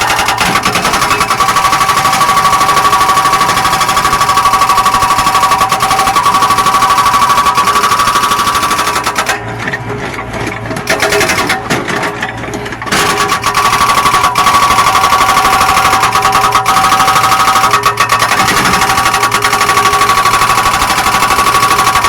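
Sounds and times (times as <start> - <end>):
excavator engine and hydraulics: 0.0 - 22.0.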